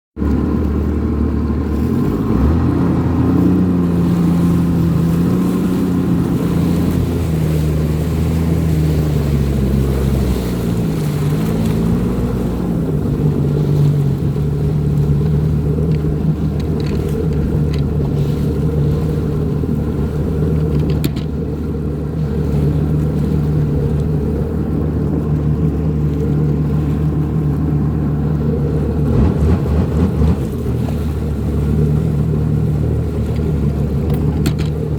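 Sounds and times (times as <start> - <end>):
jet ski engine running: 0.2 - 34.9.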